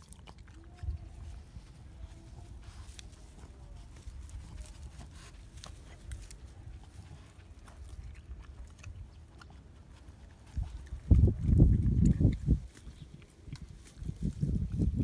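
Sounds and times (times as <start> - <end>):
dog chewing grass: 0.0 - 15.0.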